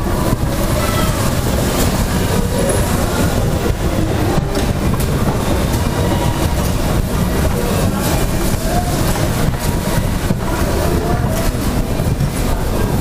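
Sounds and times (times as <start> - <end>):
car rattling: 0.0 - 13.0
dodgem car rumbling on metal floor: 0.0 - 13.0.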